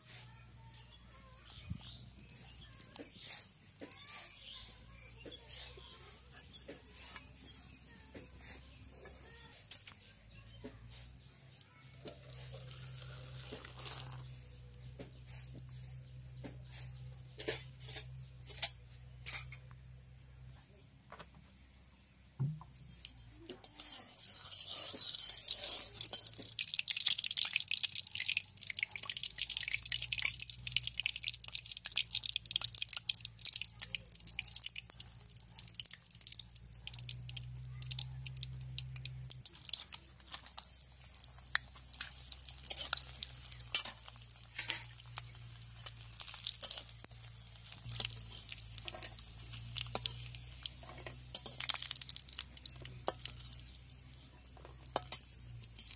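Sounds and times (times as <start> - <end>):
hot oil sizzling and crackling: 0.8 - 7.8, 11.9 - 19.7, 22.6 - 55.9.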